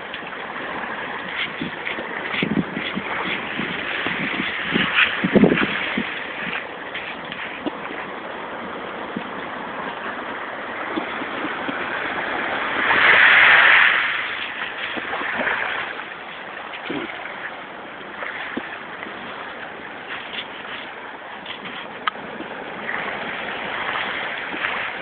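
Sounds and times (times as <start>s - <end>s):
sea waves washing on shore: 0.0s - 25.0s.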